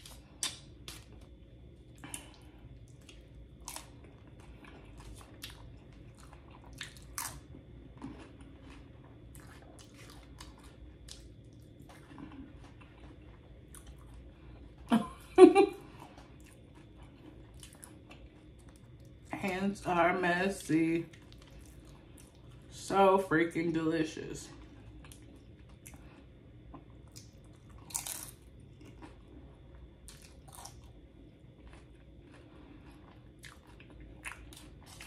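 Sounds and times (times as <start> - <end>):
chewing crunchy chips: 0.0 - 14.9, 15.8 - 22.9, 24.4 - 35.0.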